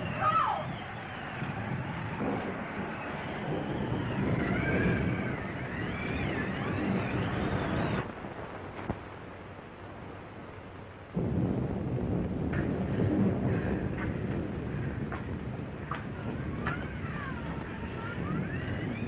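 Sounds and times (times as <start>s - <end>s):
wind howling: 0.0s - 19.0s.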